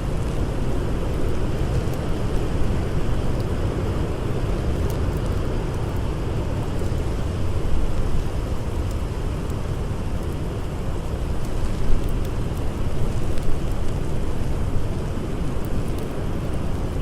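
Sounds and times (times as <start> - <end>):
faint campfire crackles: 0.0 - 17.0.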